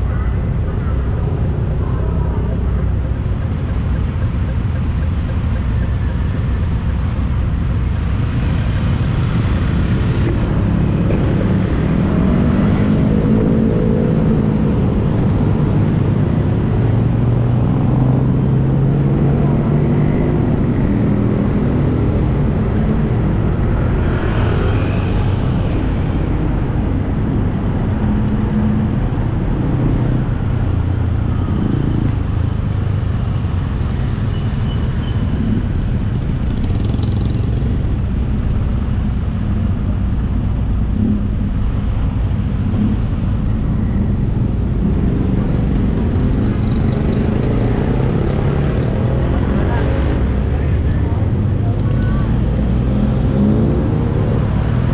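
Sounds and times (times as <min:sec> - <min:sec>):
street traffic engines: 0:00.0 - 0:54.9.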